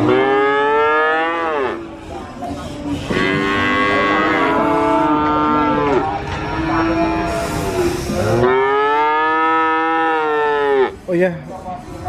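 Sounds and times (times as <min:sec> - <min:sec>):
cattle mooing: 0:00.0 - 0:01.8, 0:03.1 - 0:11.0.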